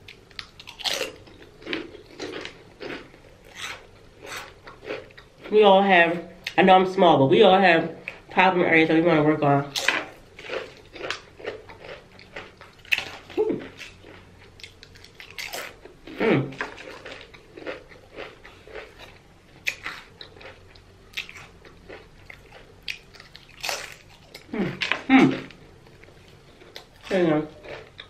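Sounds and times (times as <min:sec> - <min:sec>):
person chewing: 0:00.0 - 0:05.5, 0:09.7 - 0:28.0.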